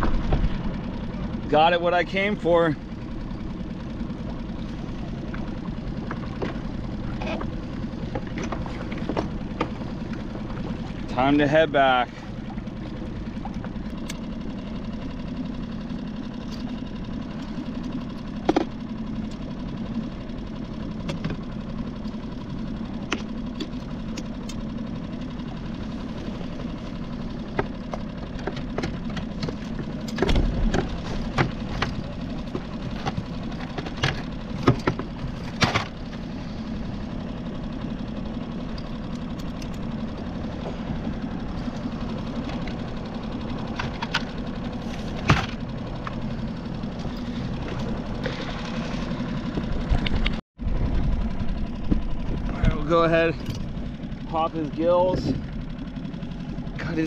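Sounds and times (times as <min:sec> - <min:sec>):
outboard motor idling: 0:00.0 - 0:57.0.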